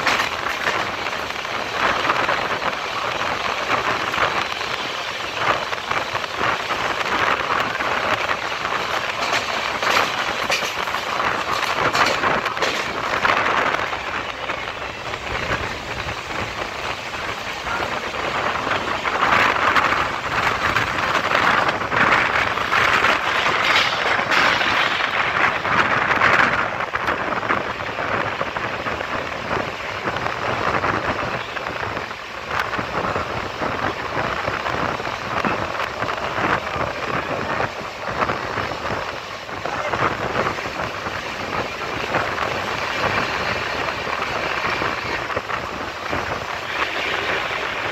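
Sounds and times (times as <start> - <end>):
train wheels rumbling on track: 0.0 - 47.9
wind rushing: 0.0 - 47.9.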